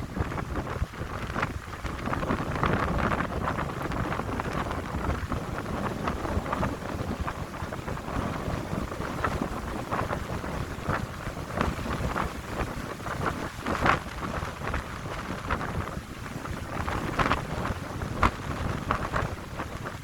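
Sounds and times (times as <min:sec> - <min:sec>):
wind buffeting microphone: 0:00.0 - 0:20.0
wind through pine trees: 0:00.0 - 0:20.0.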